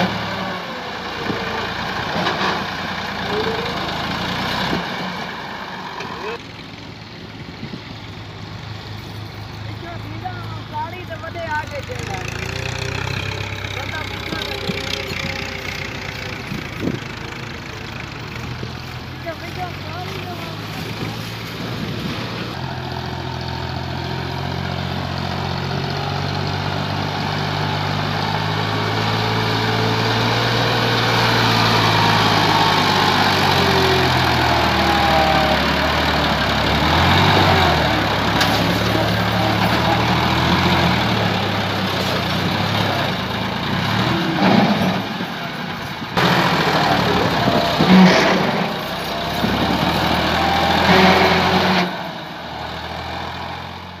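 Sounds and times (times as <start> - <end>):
tractor diesel engine working hard: 0.0 - 54.0.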